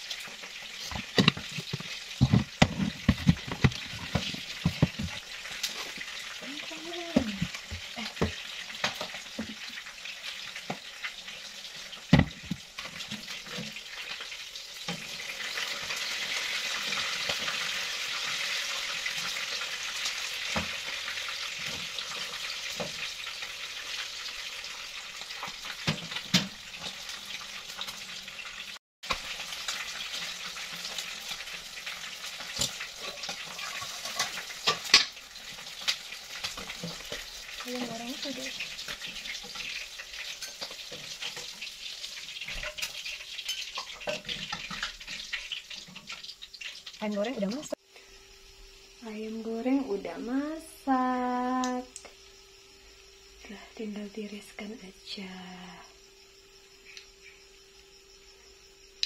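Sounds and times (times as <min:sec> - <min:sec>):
chicken sizzling in hot oil: 0:00.0 - 0:53.7.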